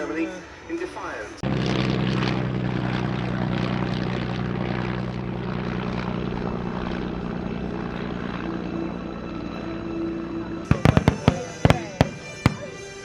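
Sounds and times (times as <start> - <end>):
propeller aircraft flying past: 1.4 - 13.0.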